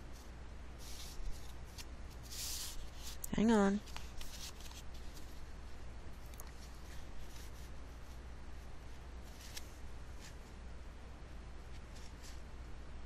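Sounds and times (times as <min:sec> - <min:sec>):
rustling and handling: 0:00.0 - 0:10.6, 0:11.6 - 0:12.5
low electrical hum and hiss: 0:00.0 - 0:13.0.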